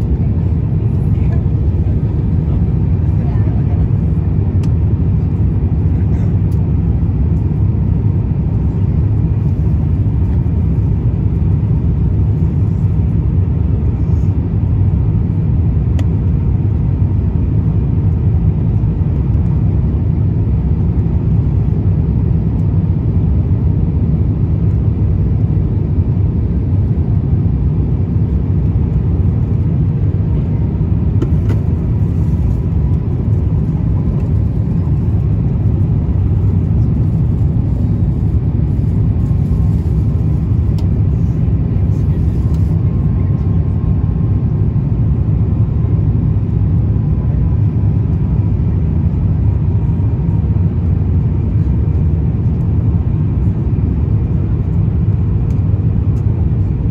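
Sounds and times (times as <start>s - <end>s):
airplane cabin engine rumble: 0.0s - 56.9s.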